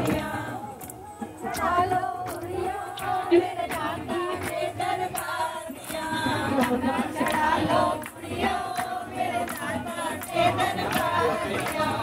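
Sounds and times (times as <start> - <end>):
group singing devotional song: 0.0 - 12.0.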